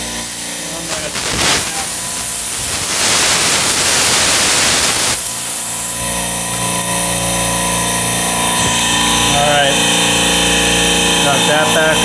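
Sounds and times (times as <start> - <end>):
refrigerant vapour hissing: 0.0 - 12.0
steady machinery hum: 0.0 - 12.0.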